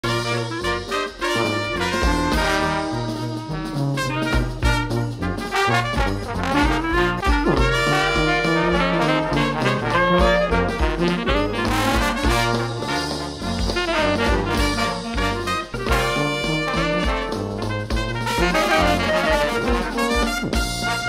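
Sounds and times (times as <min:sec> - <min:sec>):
brass horns music: 0:00.0 - 0:21.0
steady bass line: 0:00.0 - 0:21.0.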